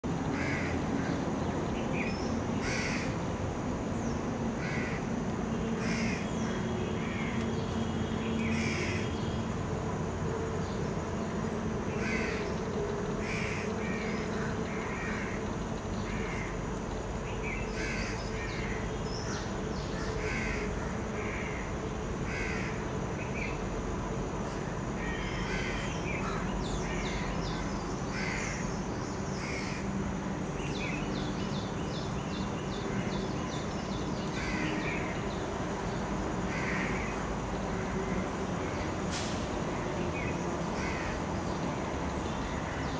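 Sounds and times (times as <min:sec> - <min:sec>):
birds calling: 0:00.0 - 0:03.3, 0:04.0 - 0:09.8, 0:11.6 - 0:23.8, 0:24.4 - 0:42.9.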